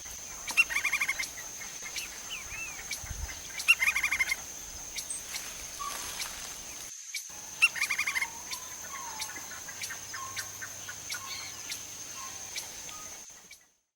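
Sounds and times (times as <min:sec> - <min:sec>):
woodpecker calling: 0:00.0 - 0:13.7.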